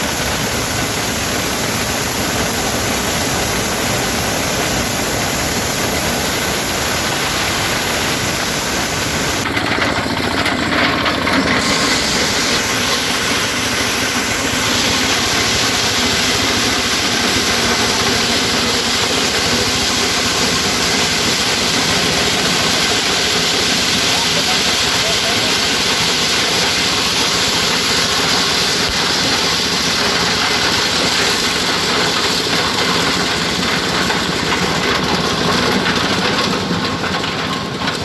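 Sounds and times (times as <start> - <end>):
corn sheller machine running: 0.0 - 38.0.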